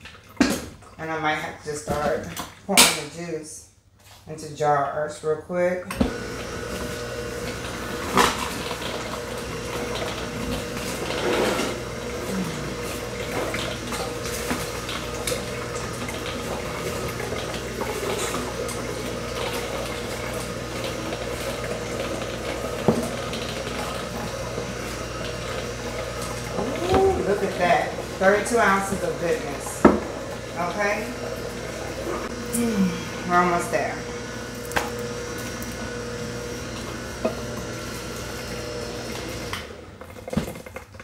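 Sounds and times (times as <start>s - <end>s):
juicer motor humming: 5.8s - 41.0s.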